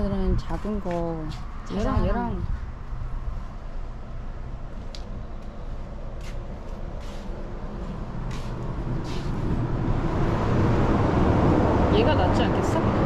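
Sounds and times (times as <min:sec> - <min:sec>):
low rumbling outdoor noise: 0:00.0 - 0:13.0.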